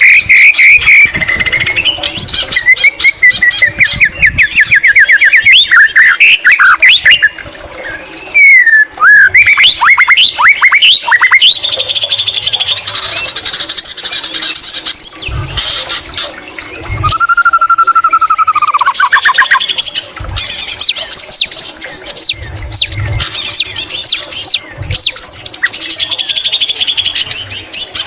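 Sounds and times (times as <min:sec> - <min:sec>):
bird singing varied song: 0:00.0 - 0:28.0.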